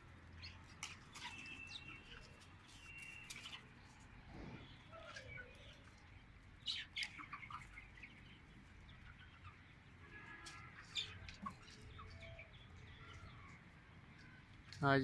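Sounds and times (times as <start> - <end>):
chicks peeping: 0.4 - 14.7
chickens clucking: 0.7 - 14.7.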